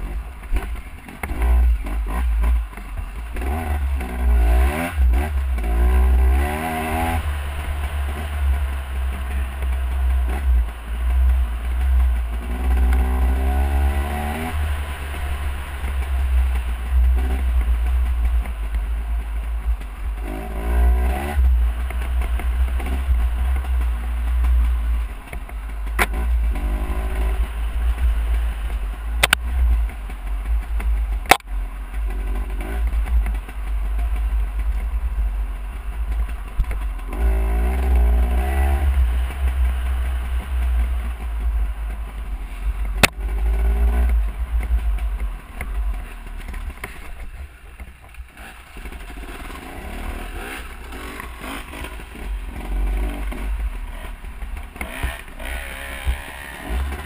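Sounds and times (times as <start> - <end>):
dirt bike engine revving: 0.0 - 35.3, 36.0 - 57.0.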